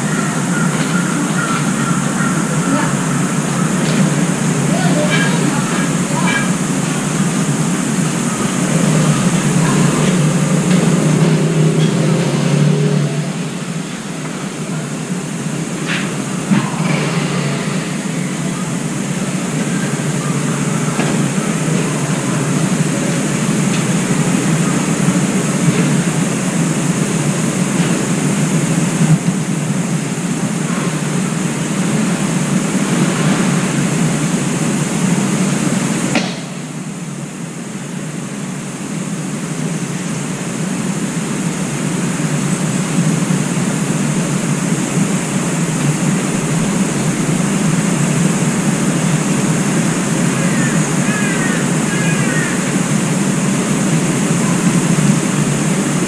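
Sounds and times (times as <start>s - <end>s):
low rumble and hiss: 0.0s - 56.0s.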